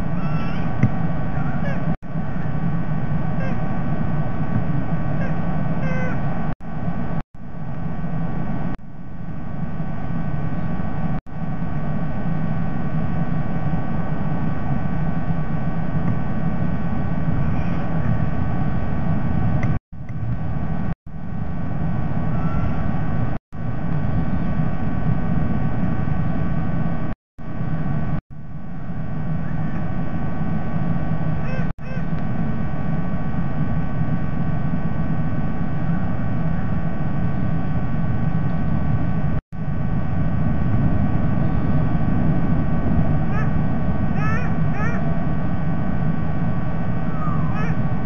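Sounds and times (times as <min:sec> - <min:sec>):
faint steady hum: 0:00.0 - 0:48.0
low rumbling background noise: 0:00.0 - 0:48.0.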